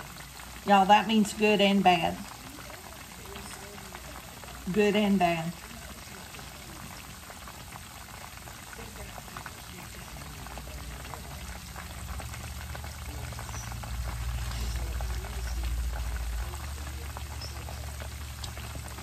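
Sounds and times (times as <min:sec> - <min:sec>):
chicken frying with pops and crackles: 0:00.0 - 0:19.0.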